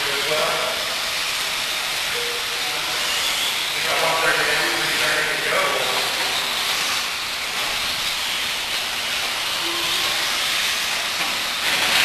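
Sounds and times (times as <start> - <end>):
rc cars racing: 0.0 - 12.0.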